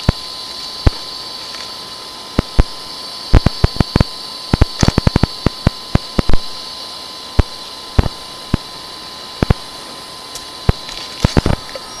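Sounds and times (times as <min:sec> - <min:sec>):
electrical hiss with high whine: 0:00.0 - 0:12.0.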